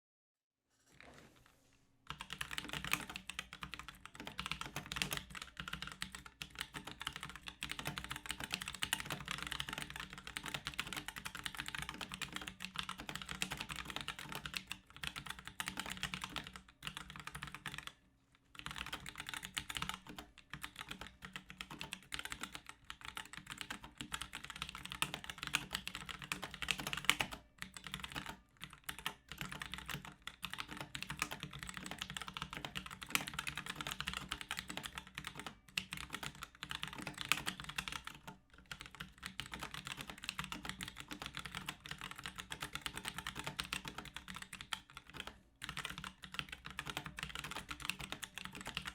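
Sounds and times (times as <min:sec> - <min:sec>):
fast typing on mechanical keyboard: 0:02.1 - 0:17.9, 0:18.6 - 0:48.9.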